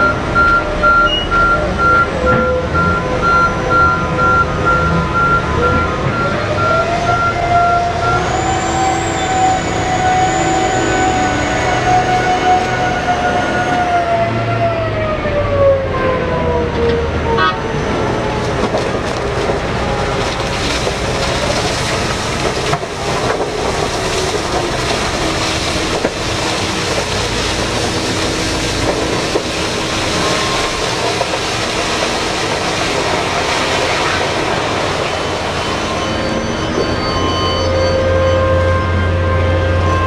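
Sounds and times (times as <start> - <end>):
dump truck engine running: 0.0 - 40.0.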